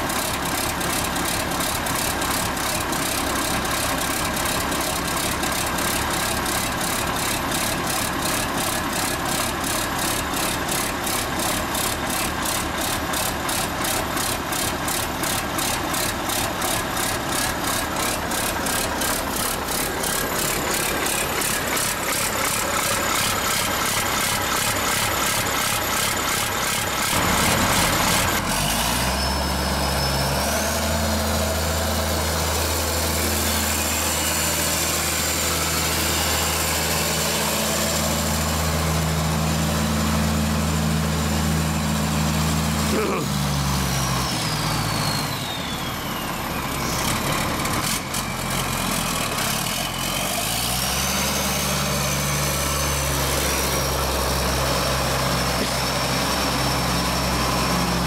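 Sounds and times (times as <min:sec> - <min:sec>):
unsilenced diesel engine running: 0:00.0 - 0:58.0.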